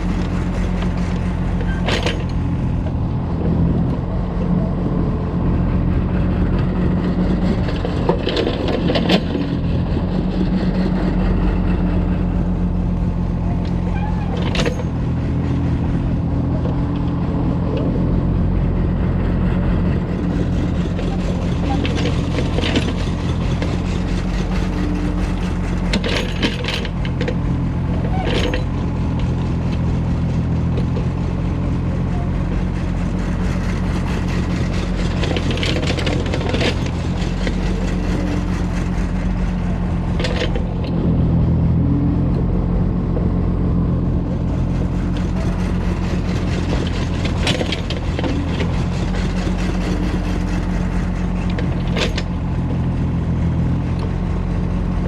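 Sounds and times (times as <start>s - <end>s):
excavator clanks: 0.0s - 4.7s, 6.1s - 18.0s, 19.2s - 54.9s
diesel engine running: 0.0s - 55.0s.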